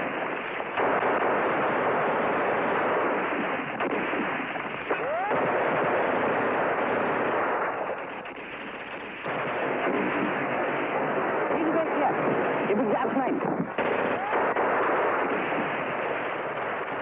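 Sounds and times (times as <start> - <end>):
dense gunfire: 0.0 - 17.0
explosions: 0.0 - 17.0.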